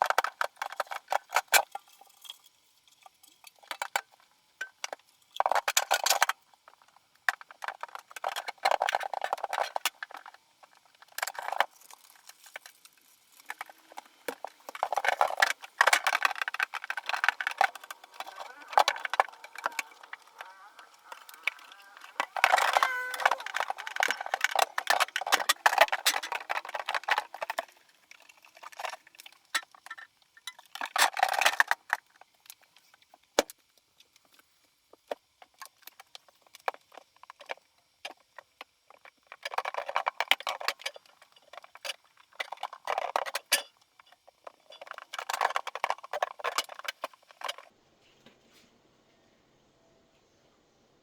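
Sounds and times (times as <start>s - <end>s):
small objects clicking and clinking: 0.0s - 34.4s, 35.0s - 47.7s.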